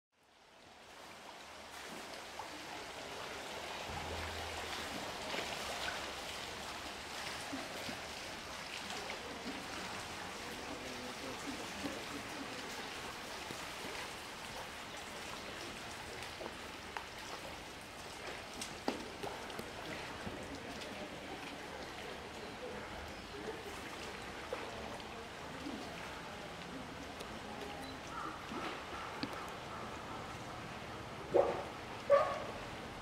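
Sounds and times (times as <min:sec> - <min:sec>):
water drips and splashes: 0:00.2 - 0:33.0
water trickling: 0:00.3 - 0:33.0.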